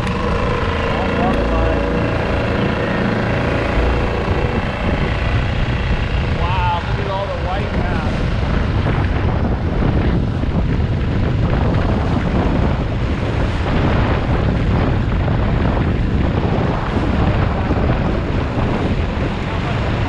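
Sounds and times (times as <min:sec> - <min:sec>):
outboard motor running: 0:00.0 - 0:20.0
water rushing past hull: 0:00.0 - 0:20.0
wind buffeting the microphone: 0:00.0 - 0:20.0.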